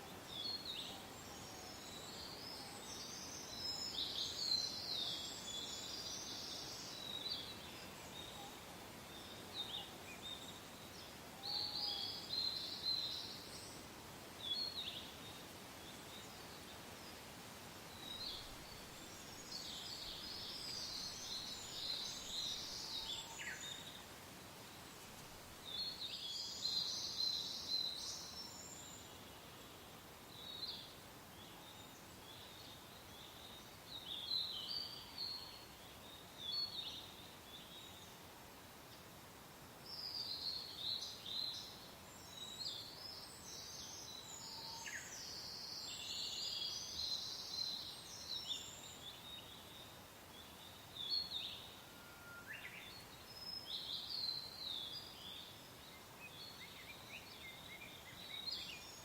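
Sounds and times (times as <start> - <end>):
songbirds singing: 0.0 - 17.3, 17.9 - 39.2, 39.8 - 59.0
soft wind: 0.0 - 59.0.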